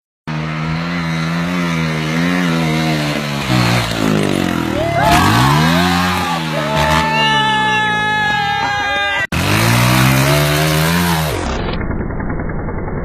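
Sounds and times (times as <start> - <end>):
motorcycle engine idling and revving: 0.3 - 13.0.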